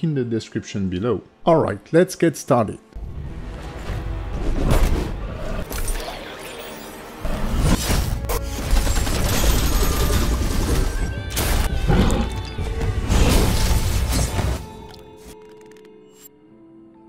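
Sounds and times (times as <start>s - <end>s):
cinematic trailer music: 0.0s - 17.0s.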